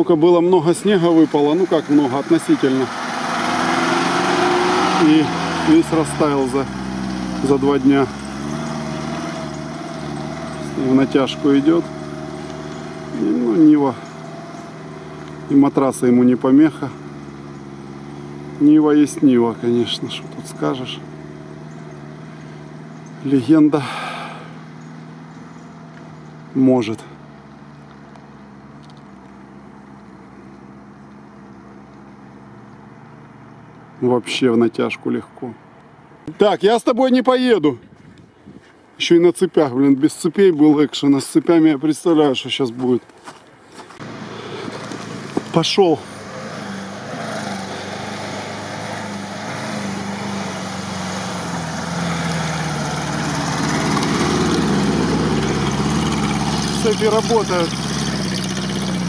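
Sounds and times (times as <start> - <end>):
faint car engine drone: 0.0 - 59.0.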